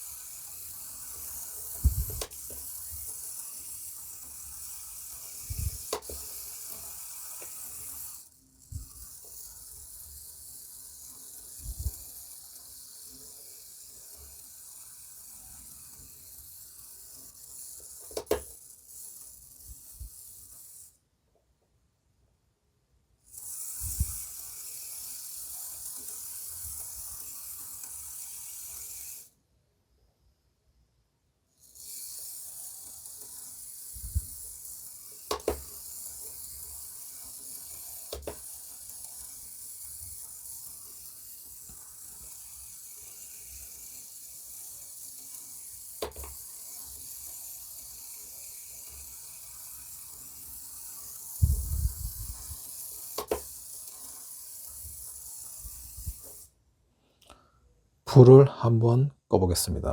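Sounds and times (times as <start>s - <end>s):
model train motor hiss: 0.0s - 21.1s, 23.2s - 29.5s, 31.5s - 56.6s.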